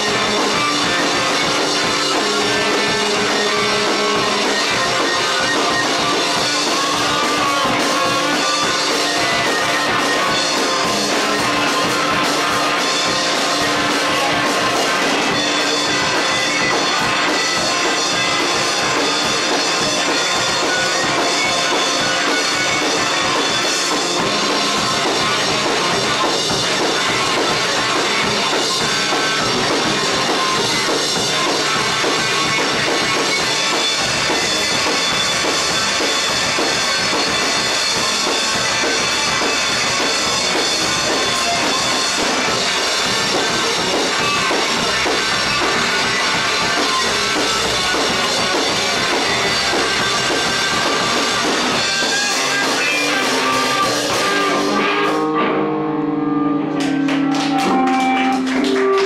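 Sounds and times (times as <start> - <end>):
drum kit: 0.0 - 59.0
rock band playing live: 0.0 - 59.0.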